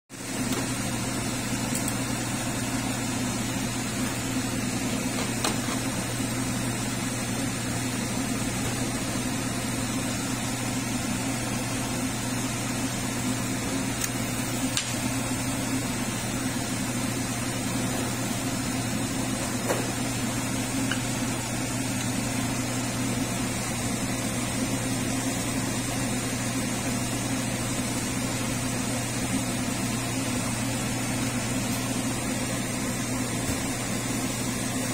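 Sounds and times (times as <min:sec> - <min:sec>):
extractor fan humming: 0:00.1 - 0:34.9.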